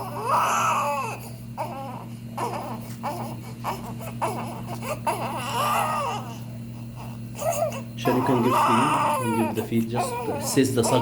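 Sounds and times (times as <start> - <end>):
infant crying and fussing: 0.0 - 11.0.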